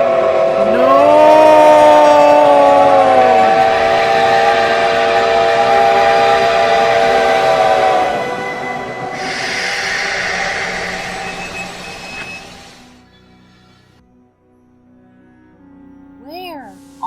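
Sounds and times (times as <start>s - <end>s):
steam whistle chord: 0.0s - 14.0s.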